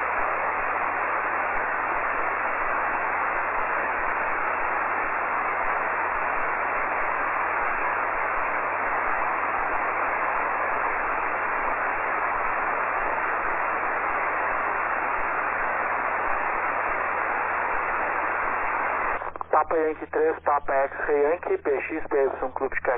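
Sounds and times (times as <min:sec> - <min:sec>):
faint low hum: 0:00.0 - 0:22.9
radio band noise hiss: 0:00.0 - 0:22.9.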